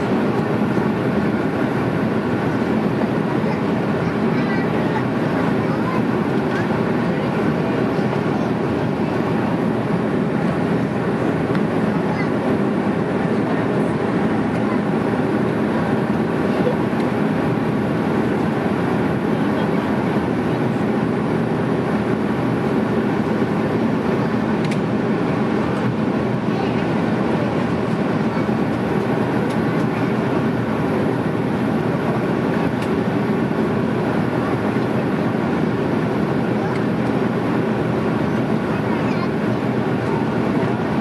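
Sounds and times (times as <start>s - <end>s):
airliner cabin engine drone: 0.0s - 41.0s.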